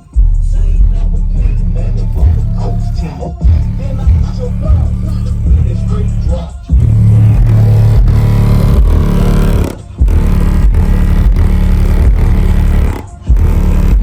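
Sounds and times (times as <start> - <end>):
bass-heavy music from subwoofers: 0.0 - 14.0.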